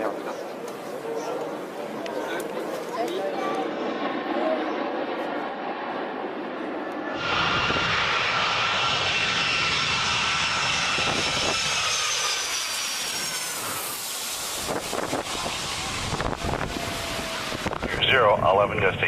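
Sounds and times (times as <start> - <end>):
aircraft engines with high whine: 0.0 - 19.0.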